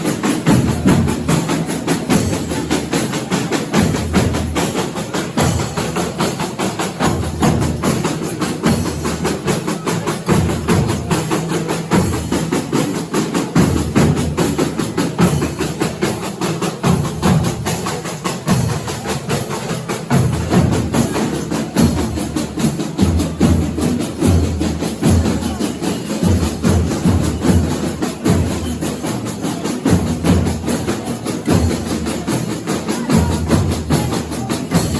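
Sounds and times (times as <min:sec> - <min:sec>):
drums and tambourines: 0:00.0 - 0:34.9.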